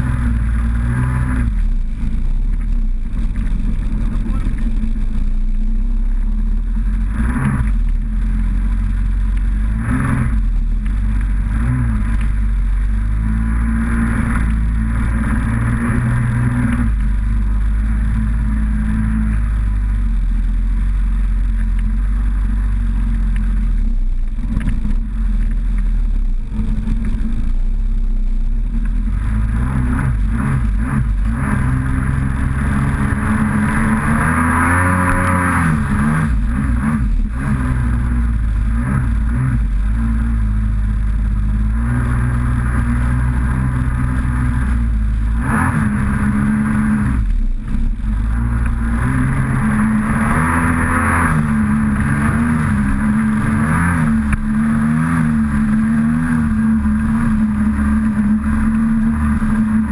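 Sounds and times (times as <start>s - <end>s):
jet ski engine running: 0.0s - 59.9s.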